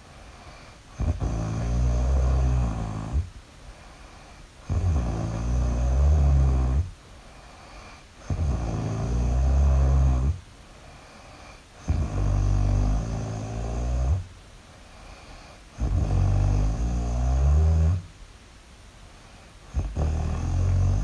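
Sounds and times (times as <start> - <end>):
quiet breaths: 0.0 - 21.0
loud human snoring: 0.3 - 3.3, 4.1 - 10.4, 11.0 - 14.3, 15.0 - 18.1, 19.6 - 21.0.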